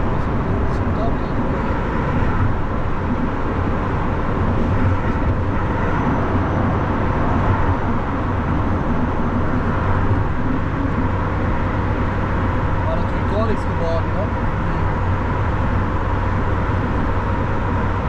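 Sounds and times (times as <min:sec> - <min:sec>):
low even drone: 0:00.0 - 0:18.0
road and wind noise: 0:00.0 - 0:18.0.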